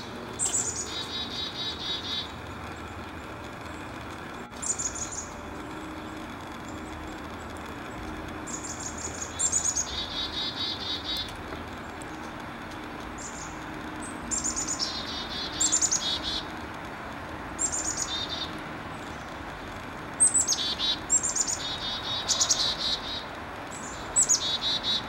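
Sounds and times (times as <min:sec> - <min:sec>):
chickadees calling: 0:00.0 - 0:03.2, 0:04.5 - 0:12.4, 0:13.1 - 0:16.6, 0:17.5 - 0:25.0.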